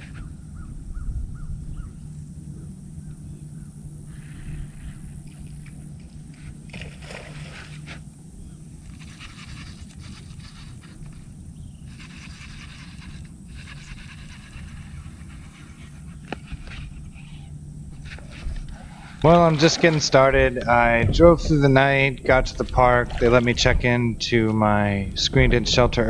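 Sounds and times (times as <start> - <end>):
steady low hum: 0.0 - 26.0
wind noise on microphone: 0.0 - 26.0.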